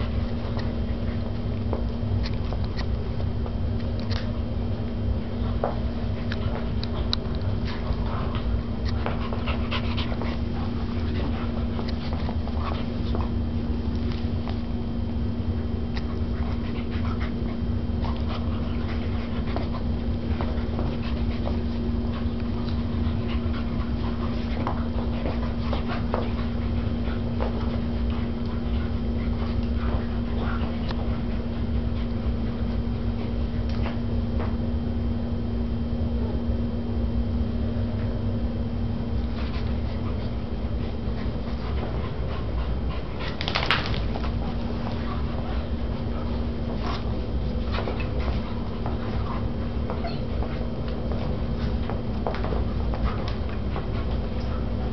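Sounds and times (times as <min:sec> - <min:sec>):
dogs play-wrestling: 0:00.0 - 0:36.8, 0:37.4 - 0:54.9
steady low hum: 0:00.0 - 0:54.9.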